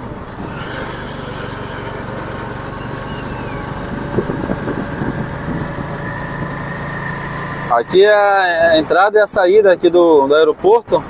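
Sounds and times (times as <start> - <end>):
auto rickshaw engine running: 0.0 - 11.0.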